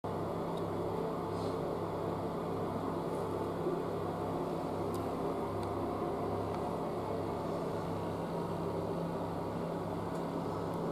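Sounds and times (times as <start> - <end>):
ventilation fan humming: 0.0 - 10.9.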